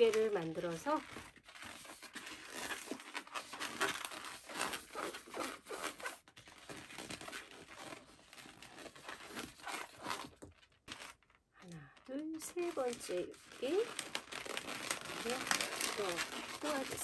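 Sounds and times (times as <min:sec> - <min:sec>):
balloon squeaking and rubbing: 0:00.0 - 0:17.0.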